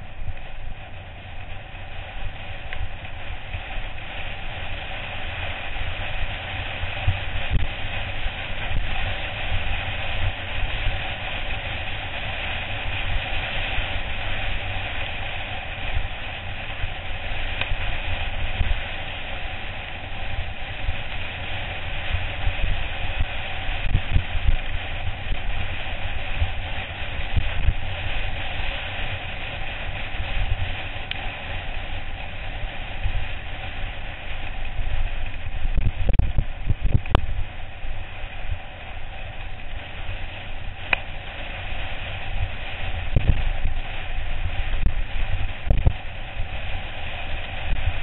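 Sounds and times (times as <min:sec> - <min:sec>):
bike rumbling over dirt track: 0:00.0 - 0:48.0
wind buffeting microphone: 0:00.0 - 0:48.0.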